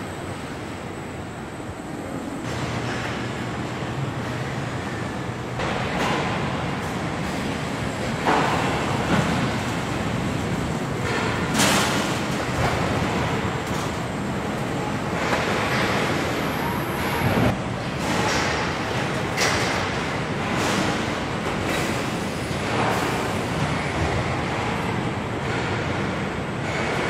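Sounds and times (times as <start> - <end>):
assembly line machinery din: 0.0 - 27.0
loud machinery clanks: 2.4 - 27.0.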